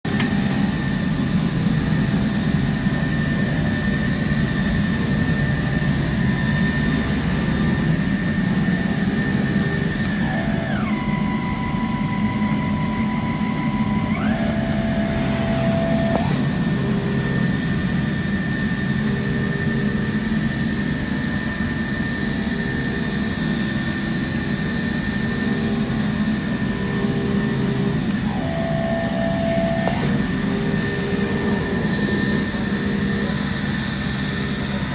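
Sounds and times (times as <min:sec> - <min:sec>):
thin motor whines: 0:00.1 - 0:34.9.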